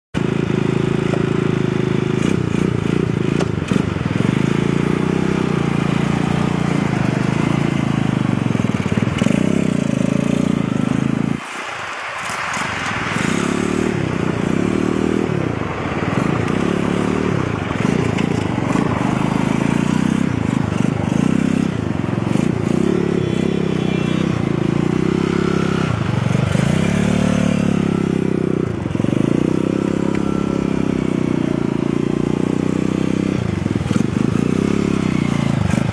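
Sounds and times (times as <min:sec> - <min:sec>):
small motorcycle engine revving: 0:00.2 - 0:11.4, 0:12.2 - 0:35.9.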